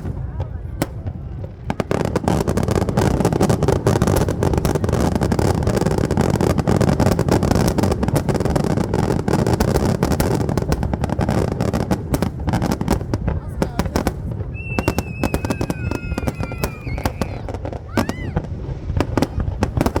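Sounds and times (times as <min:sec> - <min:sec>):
fireworks bangs and crackles: 0:00.0 - 0:20.0
steady fireworks rumble: 0:00.0 - 0:20.0.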